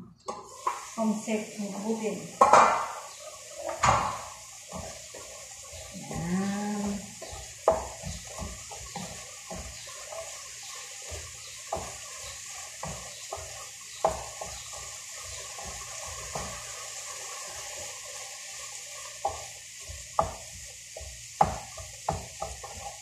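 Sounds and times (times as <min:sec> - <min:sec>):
food sizzling in a pan: 0:00.2 - 0:23.0
wooden spatula scraping a frying pan: 0:02.4 - 0:23.0.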